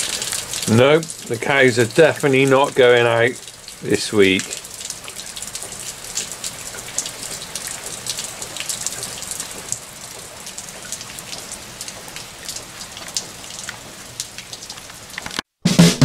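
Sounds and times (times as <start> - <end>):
water spilling off gutter onto flagstones: 0.0 - 15.3
heavy rain falling: 0.0 - 15.4.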